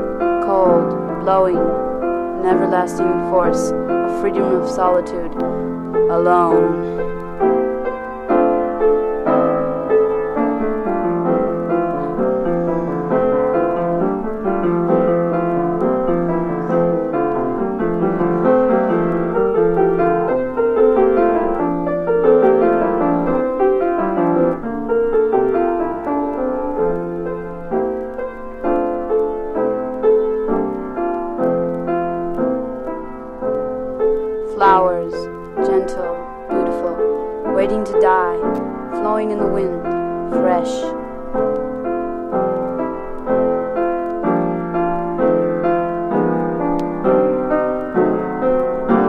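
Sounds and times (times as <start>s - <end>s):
solo piano music: 0.0s - 49.0s.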